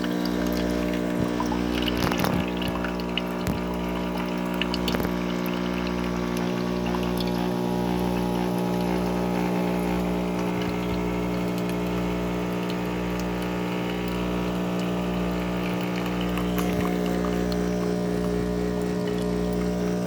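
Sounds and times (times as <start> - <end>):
coffee maker pump humming: 0.0 - 20.0.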